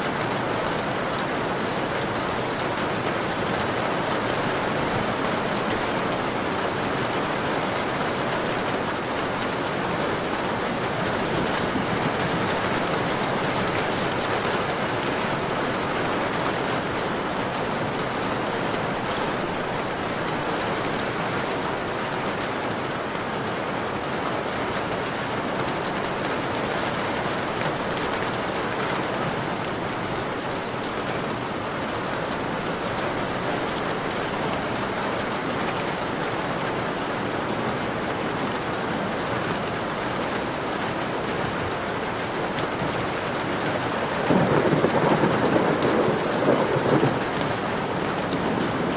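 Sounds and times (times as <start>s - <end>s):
rain on a window: 0.0s - 48.9s.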